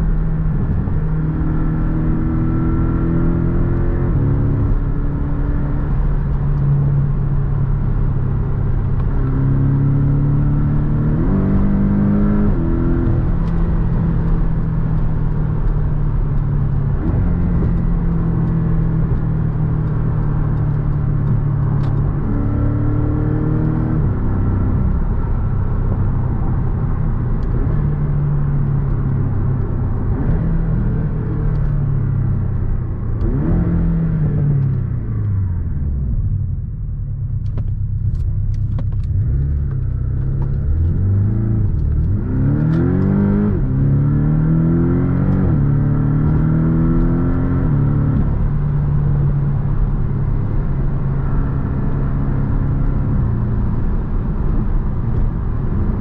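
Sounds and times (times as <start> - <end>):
car engine from cabin: 0.0 - 56.0.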